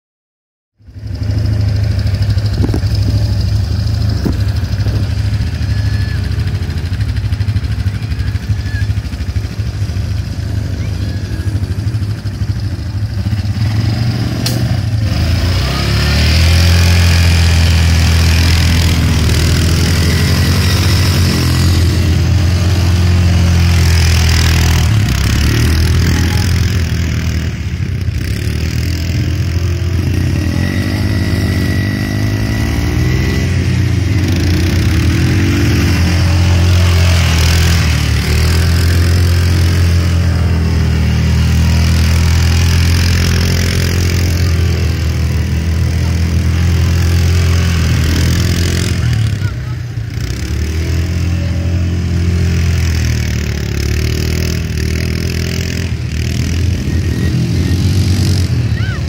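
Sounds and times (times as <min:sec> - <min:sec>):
quad bike engine running: 0:00.8 - 0:59.0.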